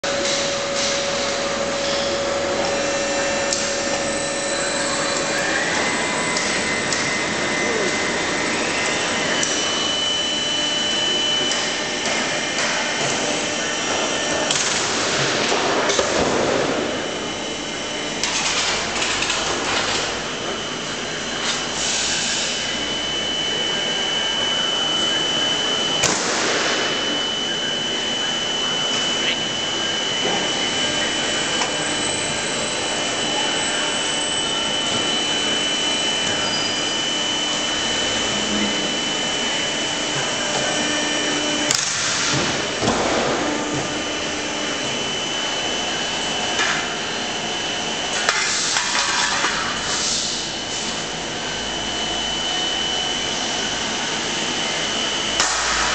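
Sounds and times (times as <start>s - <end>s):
machine high whine: 0.0s - 55.9s.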